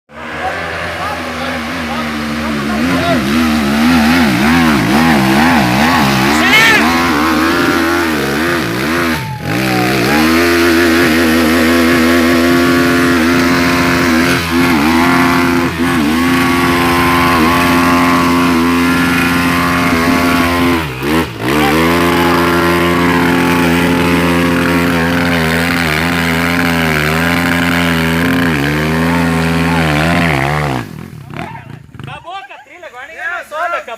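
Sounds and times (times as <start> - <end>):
off-road motorcycle engine revving: 0.1 - 32.5.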